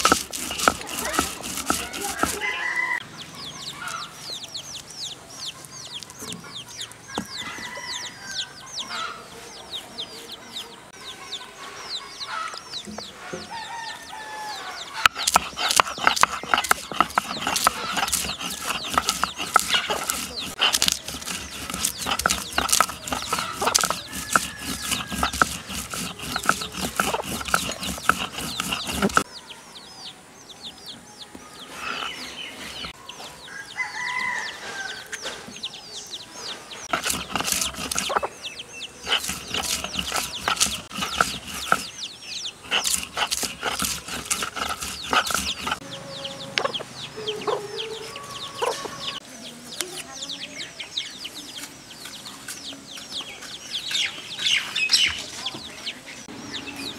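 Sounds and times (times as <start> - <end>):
chickens clucking: 0.0 - 56.9
small birds chirping: 0.0 - 56.9.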